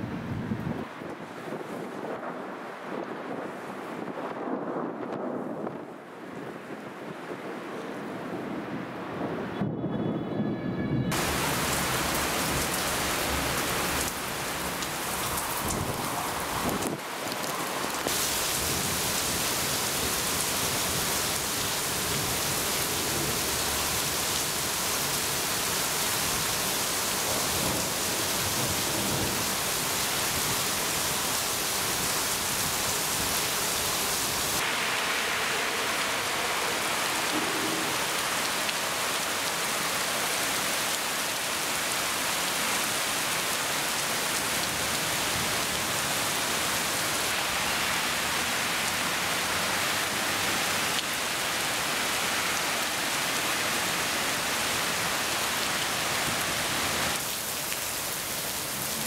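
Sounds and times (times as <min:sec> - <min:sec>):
heavy rain pouring: 0:10.9 - 0:59.0.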